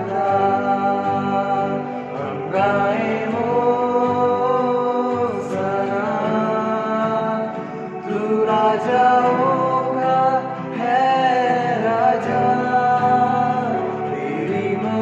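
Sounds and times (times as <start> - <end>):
electronic keyboard: 0.0 - 15.0
man singing: 0.0 - 15.0
strummed acoustic guitar: 0.0 - 15.0.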